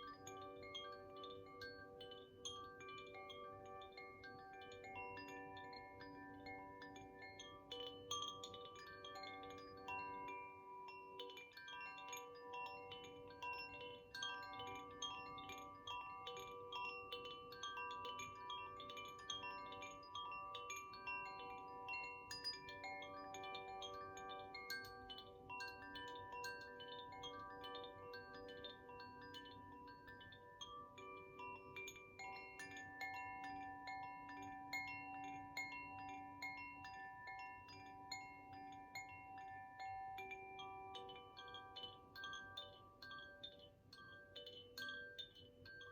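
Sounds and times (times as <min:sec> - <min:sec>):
wind chime ringing: 0:00.0 - 0:45.9.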